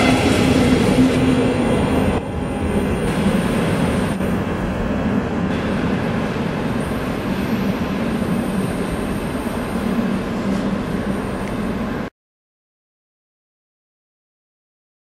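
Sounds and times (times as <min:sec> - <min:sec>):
train wheels rumbling on rails: 0:00.0 - 0:12.1.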